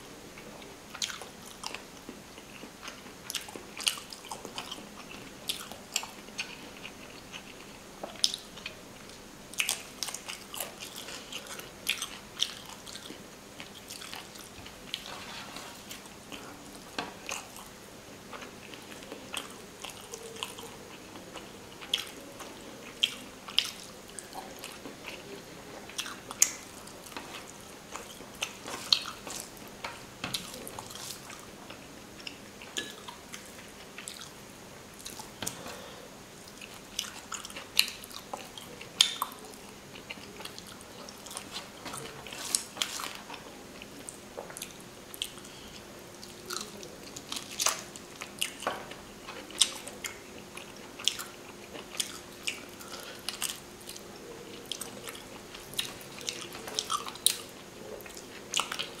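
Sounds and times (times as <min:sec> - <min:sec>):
man chewing food: 0:00.3 - 0:59.0.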